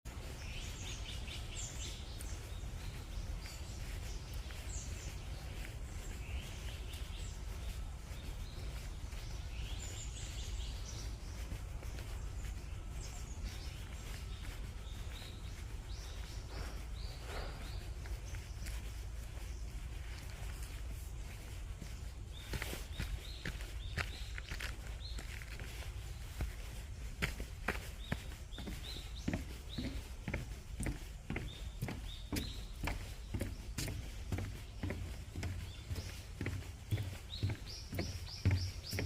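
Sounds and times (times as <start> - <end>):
small birds chirping: 0.1 - 39.0.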